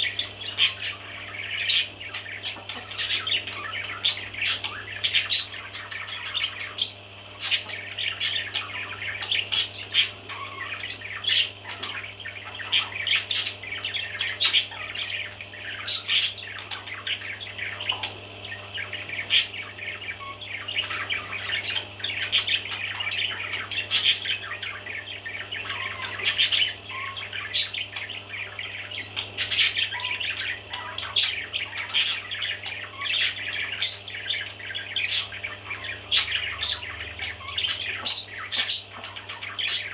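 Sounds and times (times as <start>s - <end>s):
baby parrots chirping: 0.0s - 39.9s
steady low hum: 0.0s - 39.9s
parrot squawks: 0.1s - 39.9s.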